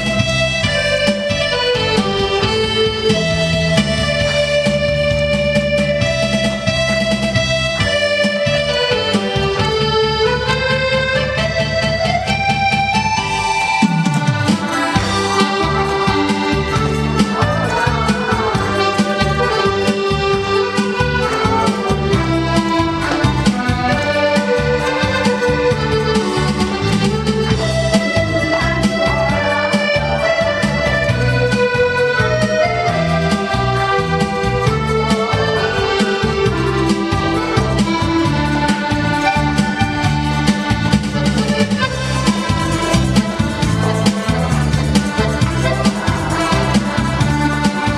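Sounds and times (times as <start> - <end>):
piano accordion playing: 0.0 - 47.9.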